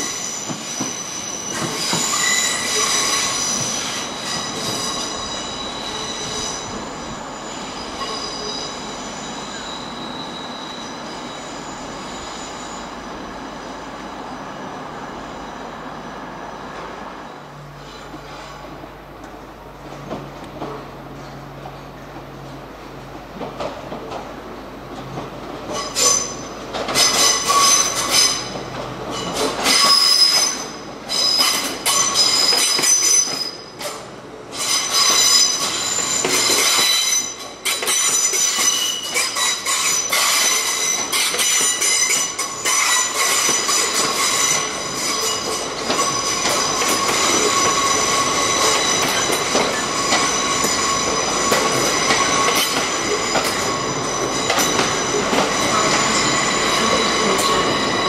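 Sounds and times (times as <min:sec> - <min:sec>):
train wheels squealing: 0:00.0 - 0:18.8, 0:23.4 - 0:58.0.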